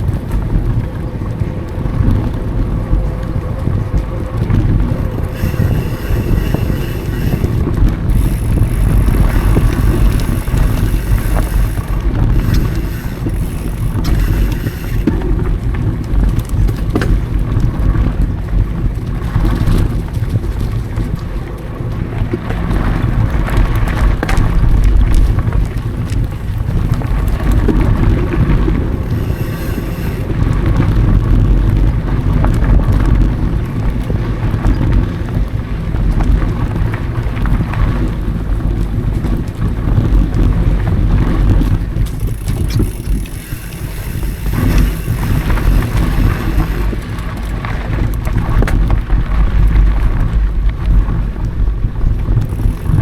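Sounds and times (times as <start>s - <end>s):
bike tyres on dirt trail: 0.0s - 53.0s
wind buffeting microphone: 0.0s - 53.0s
bike frame rattles and knocks: 3.6s - 21.2s, 22.5s - 53.0s.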